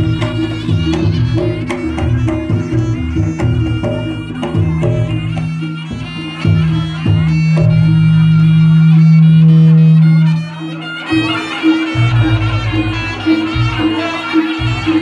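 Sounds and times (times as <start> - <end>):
drum strokes: 0.0 - 15.0
nasal reed melody: 0.0 - 15.0.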